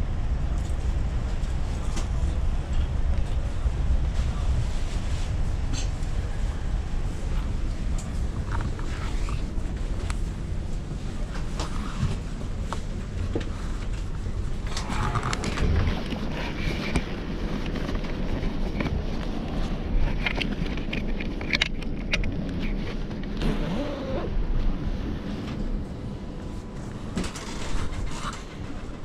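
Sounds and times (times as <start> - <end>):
train carriage rumble: 0.0 - 29.0.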